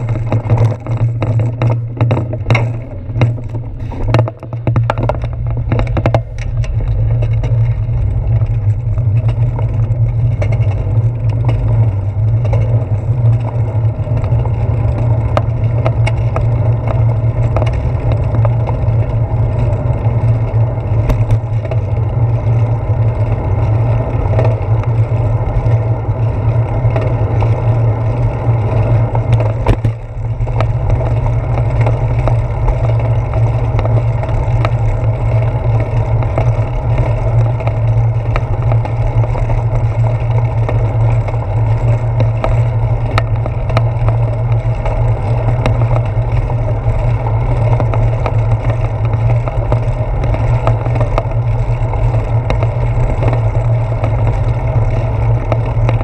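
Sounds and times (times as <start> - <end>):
faint ticks and rattles: 0.0 - 56.0
wind and road rumble: 0.0 - 56.0.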